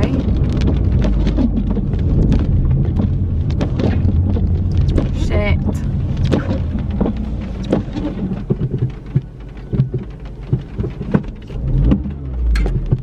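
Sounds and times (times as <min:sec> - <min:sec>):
low hum of car engine and tyres: 0:00.0 - 0:13.0
rain tapping on car roof: 0:00.0 - 0:13.0.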